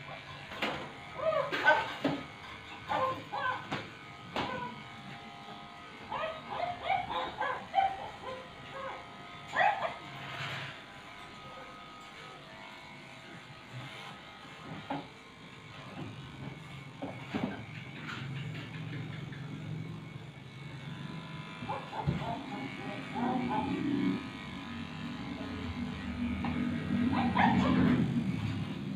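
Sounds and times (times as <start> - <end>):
electric clippers humming: 0.0 - 28.9.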